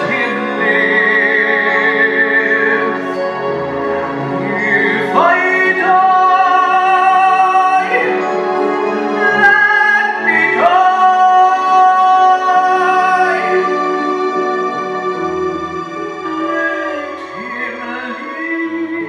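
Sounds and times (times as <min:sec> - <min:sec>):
music: 0:00.0 - 0:19.0.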